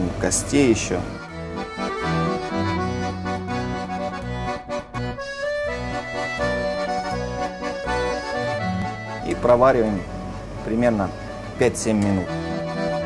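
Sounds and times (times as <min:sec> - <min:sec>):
accordion music: 0:00.0 - 0:13.0.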